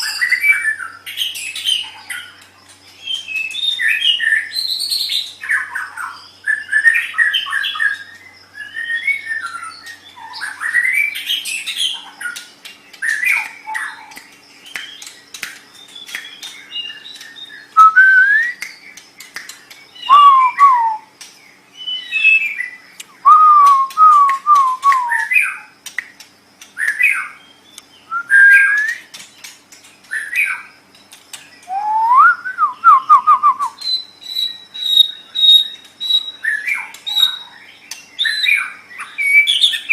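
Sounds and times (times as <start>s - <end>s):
songbird singing whistled phrases: 0.0s - 2.3s, 2.9s - 25.7s, 26.8s - 29.2s, 31.5s - 39.9s.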